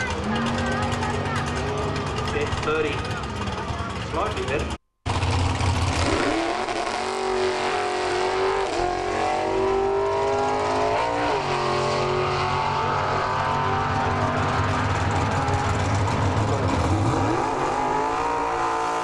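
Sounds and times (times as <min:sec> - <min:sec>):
drag racing car engine at full throttle: 0:00.0 - 0:19.0.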